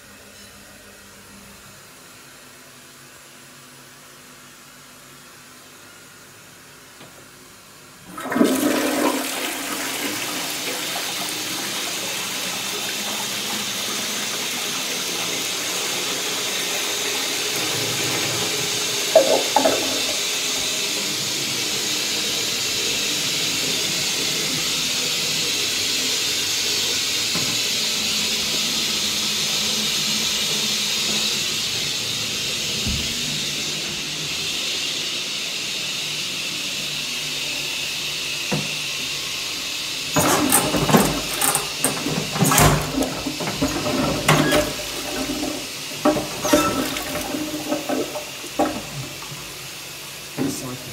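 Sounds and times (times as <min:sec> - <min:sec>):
toilet flush water rush: 0:08.0 - 0:50.9.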